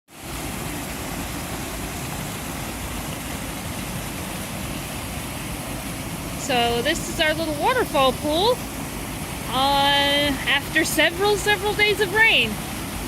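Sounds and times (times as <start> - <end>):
waterfall rushing into a pool: 0.1 - 13.0.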